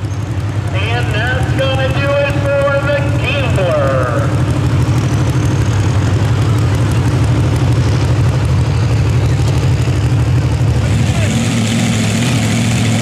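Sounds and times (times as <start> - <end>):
pulling truck engine running: 0.0 - 13.0.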